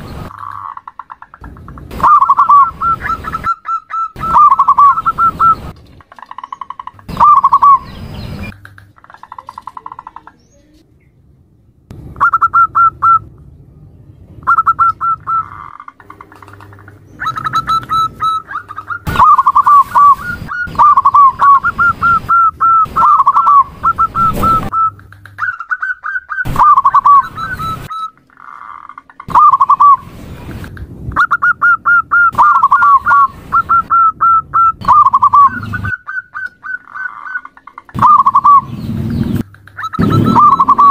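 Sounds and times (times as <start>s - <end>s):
dove cooing: 0.3s - 10.2s, 14.4s - 30.0s, 31.2s - 40.9s.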